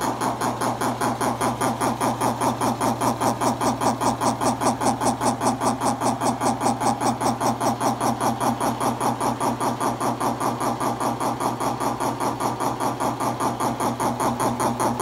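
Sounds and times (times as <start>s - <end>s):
air compressor chugging: 0.0s - 15.0s
steady hum: 0.0s - 15.0s.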